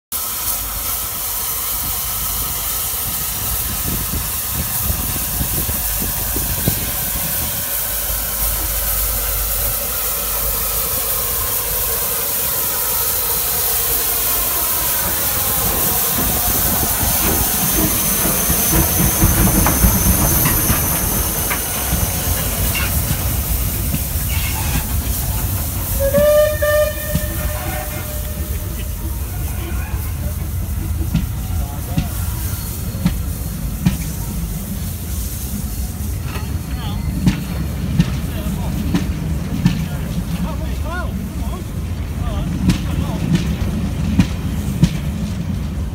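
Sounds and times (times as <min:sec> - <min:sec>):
steam locomotive hissing: 0:00.1 - 0:45.9.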